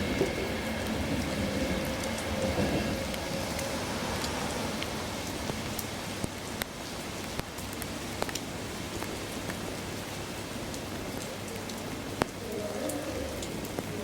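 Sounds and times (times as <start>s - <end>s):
rain hissing: 0.0s - 14.0s
raindrops tapping: 0.1s - 14.0s.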